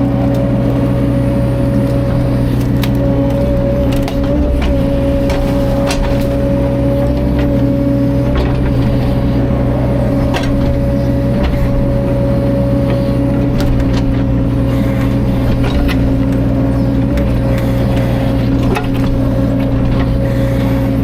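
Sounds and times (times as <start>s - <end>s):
excavator diesel engine running: 0.0s - 21.0s
hydraulic whine: 0.0s - 21.0s.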